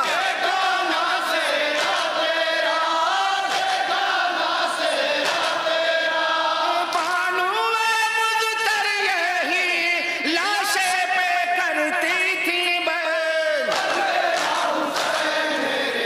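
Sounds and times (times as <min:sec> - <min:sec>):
men chanting into a microphone: 0:00.0 - 0:16.0.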